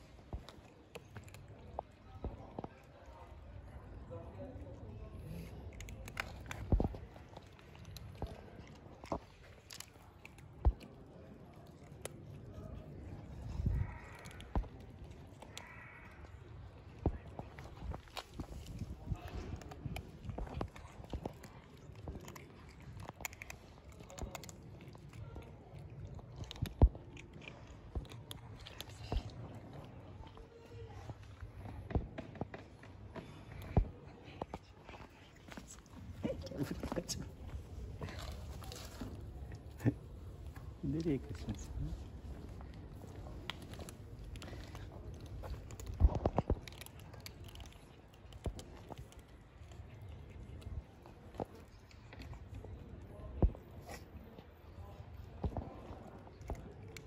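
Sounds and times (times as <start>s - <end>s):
kittens crunching dry kibble: 0.0s - 57.0s.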